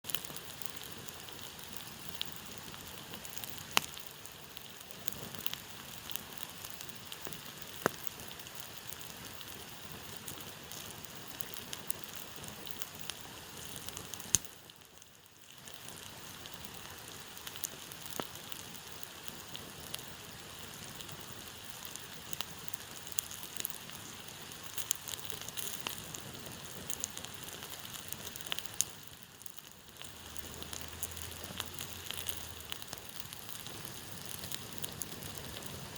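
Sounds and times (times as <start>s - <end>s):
campfire hissing and crackling: 0.0s - 35.9s.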